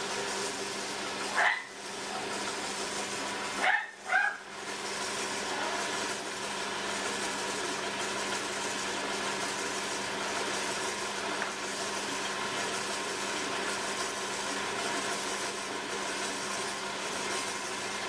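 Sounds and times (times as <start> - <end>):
potter's wheel motor hum: 0.0 - 18.0.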